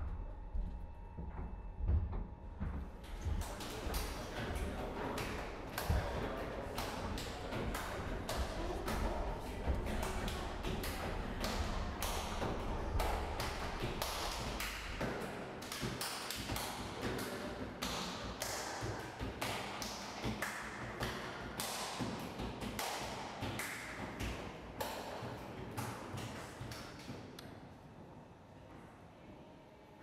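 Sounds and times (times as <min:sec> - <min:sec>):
body percussion slaps and claps: 0:02.6 - 0:27.4.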